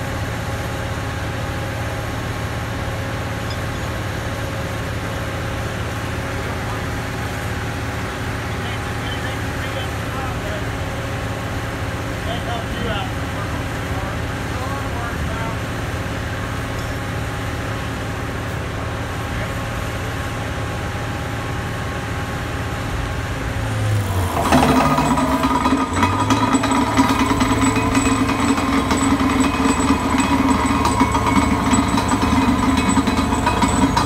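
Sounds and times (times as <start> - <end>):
heavy diesel engine running: 0.0 - 34.0.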